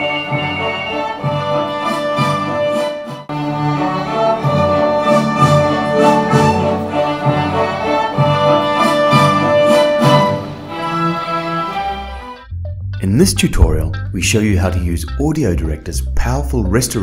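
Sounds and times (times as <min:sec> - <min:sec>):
orchestral strings legato music: 0:00.0 - 0:17.0.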